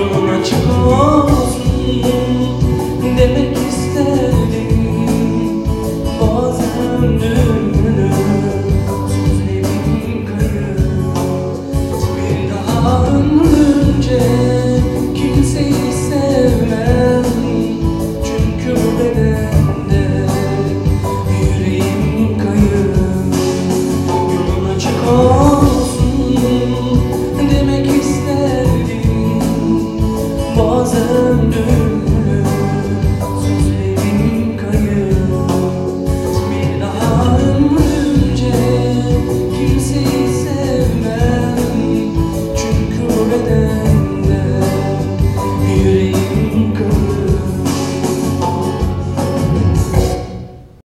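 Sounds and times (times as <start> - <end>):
man singing into microphone: 0.0 - 50.3
instrumental accompaniment: 0.0 - 50.8.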